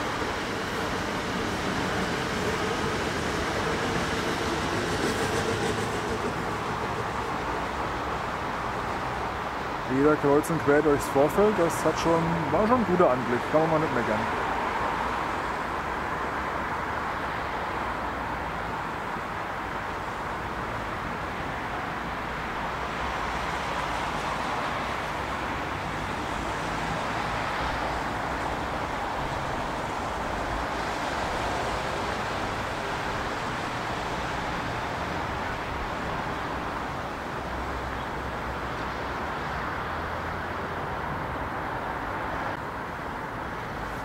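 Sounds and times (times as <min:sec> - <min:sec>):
distant vehicles rumbling: 0:00.0 - 0:44.0.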